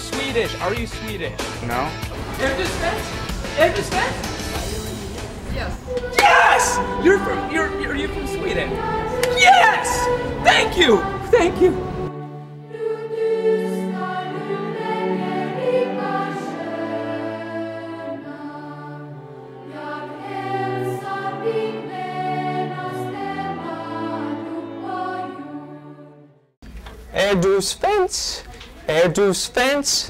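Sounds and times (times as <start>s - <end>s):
choir singing held chords: 2.0s - 26.6s.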